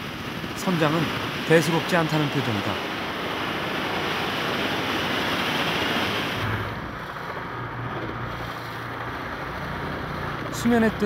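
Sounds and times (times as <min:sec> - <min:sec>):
boat engine humming: 0:00.0 - 0:11.0
rush of wind and water: 0:00.0 - 0:11.0.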